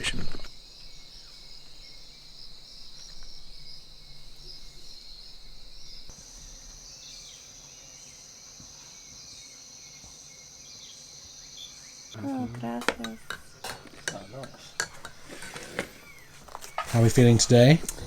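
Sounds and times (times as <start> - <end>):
faint bird calls: 0.0 - 10.2, 11.4 - 18.0
insects trilling: 0.0 - 18.0.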